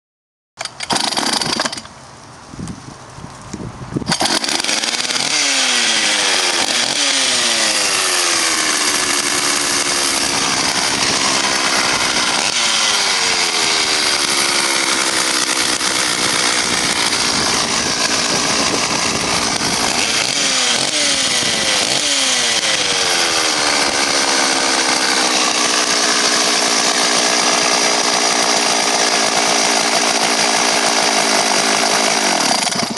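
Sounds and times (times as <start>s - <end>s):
chainsaw engine revving: 0.6s - 1.9s, 4.1s - 32.9s.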